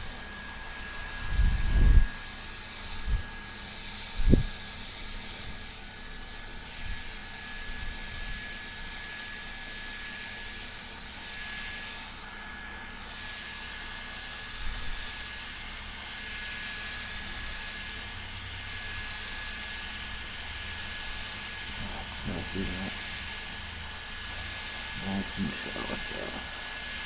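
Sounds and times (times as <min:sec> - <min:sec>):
portable fan whirring: 0:00.0 - 0:27.0
thin motor whine: 0:00.0 - 0:27.0.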